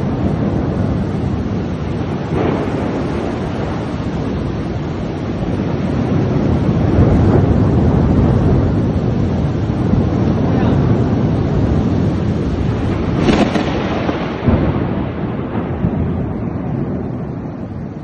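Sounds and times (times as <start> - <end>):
heavy rain: 0.0 - 18.0
wind buffeting microphone: 0.0 - 18.0.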